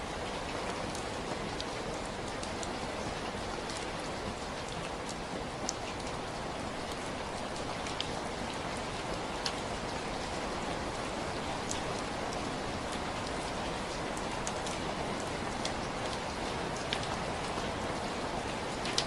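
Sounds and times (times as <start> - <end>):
raindrop ticks: 0.7 - 10.0, 11.4 - 19.0.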